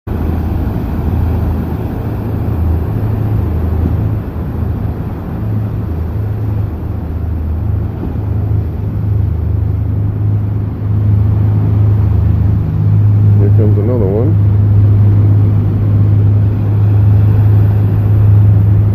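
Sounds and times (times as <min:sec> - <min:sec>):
wind: 0:00.0 - 0:18.9
boat engines droning: 0:00.1 - 0:18.9
rushing water: 0:00.1 - 0:18.9.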